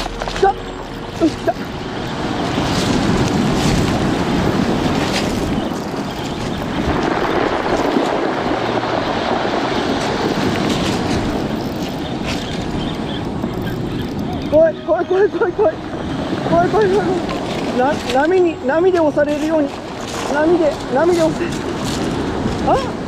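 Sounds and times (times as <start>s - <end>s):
surf washing over pebbles: 0.0s - 23.0s
wind buffeting microphone: 0.0s - 23.0s.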